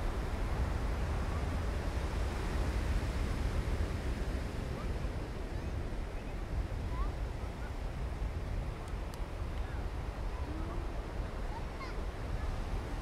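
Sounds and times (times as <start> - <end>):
ocean surf washing on beach: 0.0 - 13.0
wind rumble on microphone: 0.0 - 13.0.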